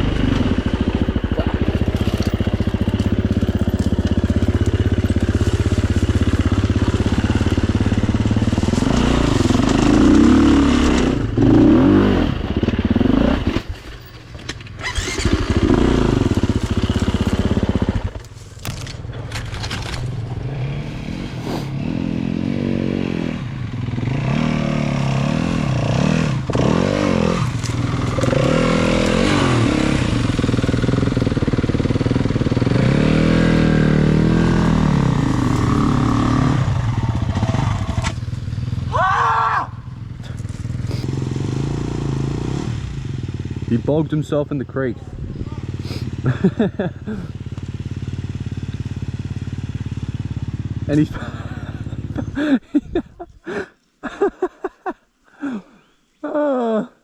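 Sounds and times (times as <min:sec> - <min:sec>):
dirt bike engines revving: 0:00.0 - 0:13.7, 0:14.7 - 0:18.2, 0:19.0 - 0:55.7.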